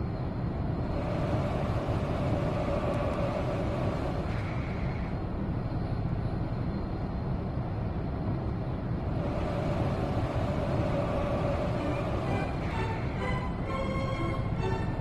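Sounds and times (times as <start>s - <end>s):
faint train whine: 0.0s - 15.0s
wheels rumbling on rails: 0.0s - 15.0s.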